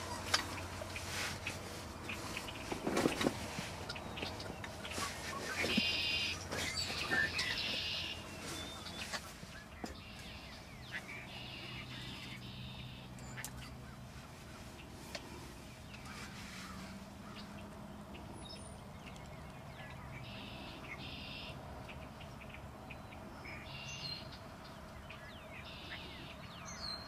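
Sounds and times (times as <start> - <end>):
wild birds calling: 0.0 - 27.0.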